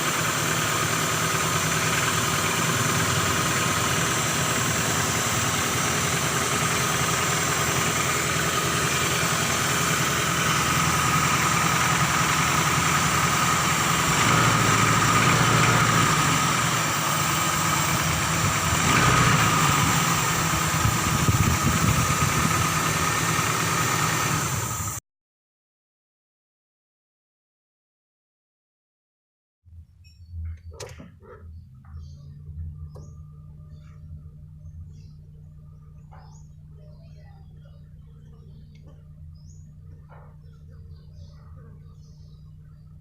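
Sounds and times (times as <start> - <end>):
car engine idling: 0.0 - 25.0, 30.4 - 43.0.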